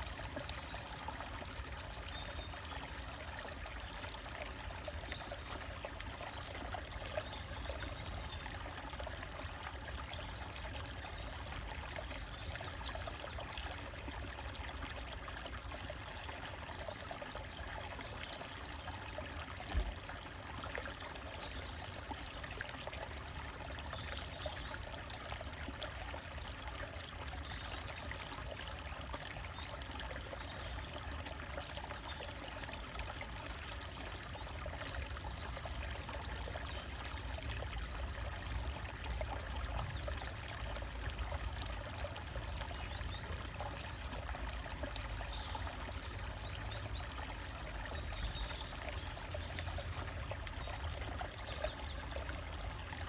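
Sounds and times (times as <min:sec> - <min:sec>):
stream splashing over rocks: 0:00.0 - 0:53.0.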